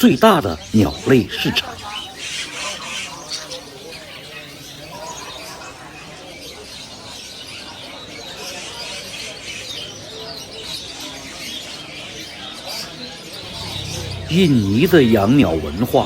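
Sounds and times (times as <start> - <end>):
caged songbirds chirping: 0.0 - 16.0.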